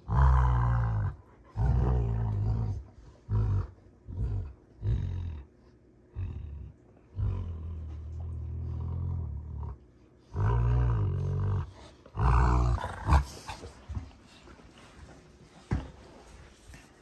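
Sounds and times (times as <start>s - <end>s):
dogs growling: 0.0s - 16.9s.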